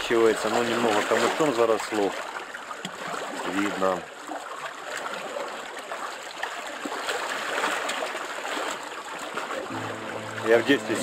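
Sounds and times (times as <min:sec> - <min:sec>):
small waves lapping and splashing: 0:00.0 - 0:11.0.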